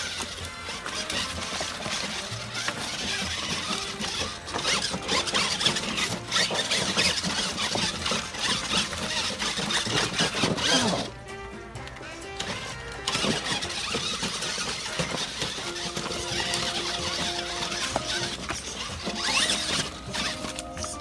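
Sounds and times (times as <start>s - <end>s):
electric motor whining: 0.0s - 21.0s
scraping and clicking on rocks: 0.0s - 21.0s.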